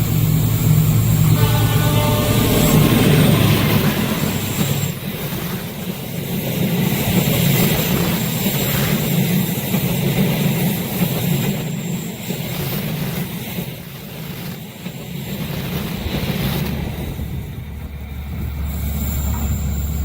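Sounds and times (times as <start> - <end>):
train passing: 0.0 - 20.0
wheels on rails: 0.0 - 20.0.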